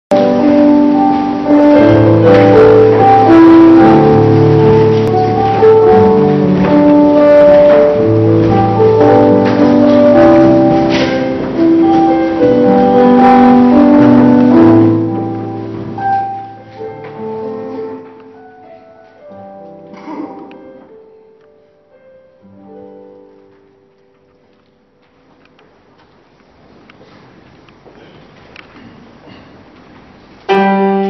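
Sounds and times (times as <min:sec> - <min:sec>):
piano playing slow chords: 0:00.1 - 0:26.7, 0:30.4 - 0:31.0.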